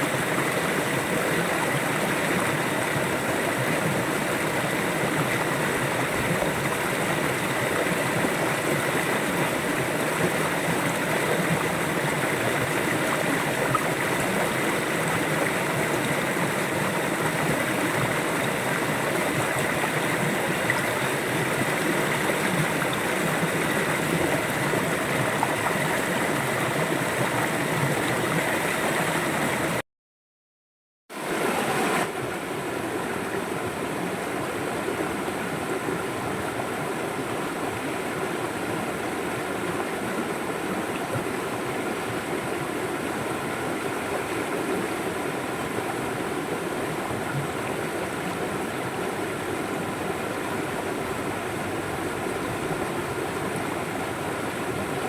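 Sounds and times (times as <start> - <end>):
river water flowing: 0.0 - 29.8, 31.2 - 55.0.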